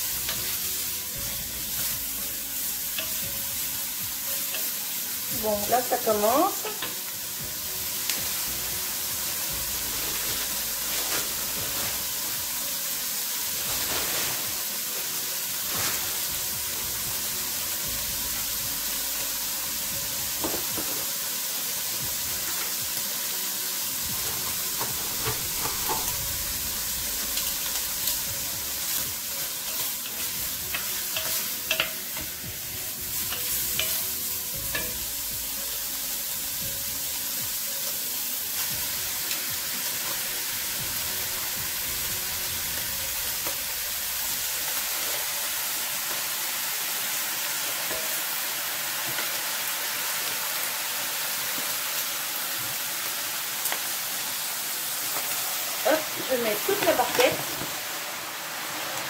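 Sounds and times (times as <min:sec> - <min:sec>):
pork sizzling with pops: 0:00.0 - 0:59.0.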